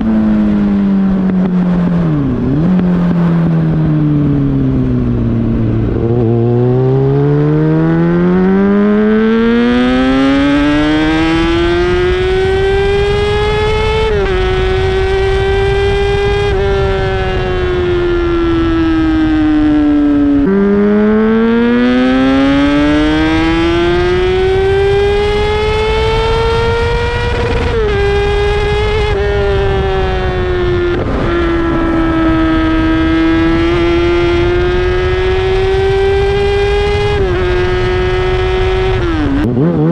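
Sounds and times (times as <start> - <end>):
sport bike engine revving: 4.5 - 39.9.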